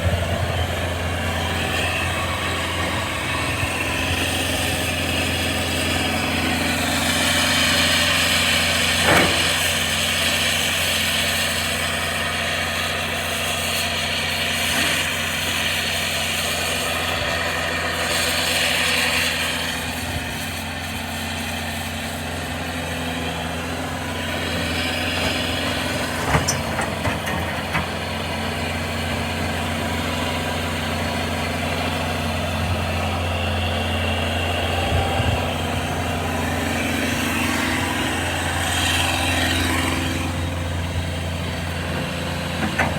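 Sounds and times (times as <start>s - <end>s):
diesel engine idling: 0.0s - 18.0s, 21.5s - 42.9s.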